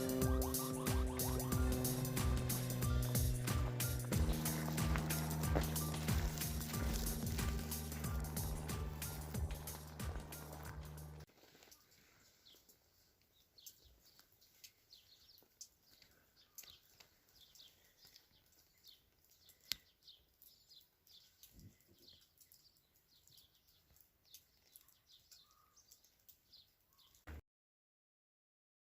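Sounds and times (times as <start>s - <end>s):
small birds chirping: 0.0s - 27.3s.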